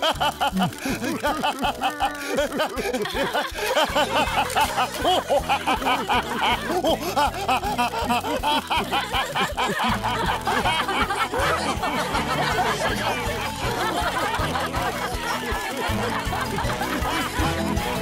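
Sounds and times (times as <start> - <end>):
cartoon characters laughing: 0.0 - 18.0.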